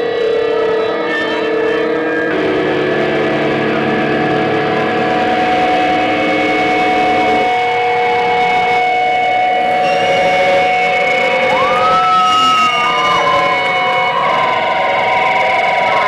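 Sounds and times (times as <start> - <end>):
harsh electronic noise music: 0.0 - 16.0.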